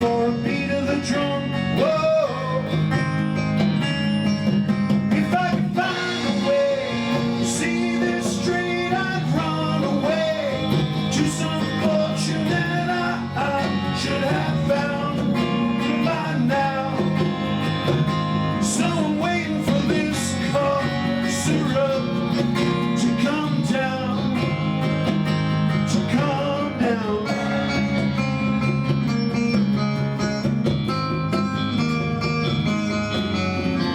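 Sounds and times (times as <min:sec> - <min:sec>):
rock band music: 0:00.0 - 0:33.9.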